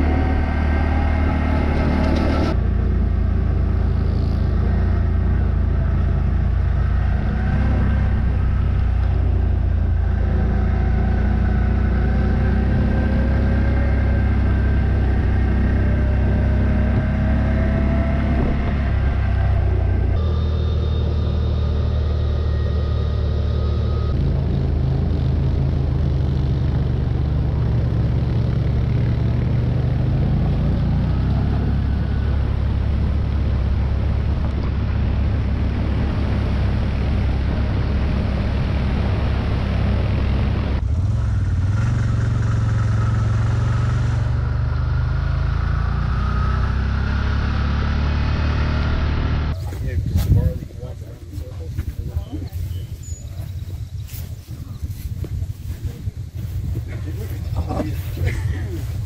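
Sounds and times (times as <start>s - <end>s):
tyre and wind noise: 0.0s - 20.3s, 26.0s - 44.7s, 46.1s - 59.0s
utility vehicle engine running: 0.0s - 59.0s.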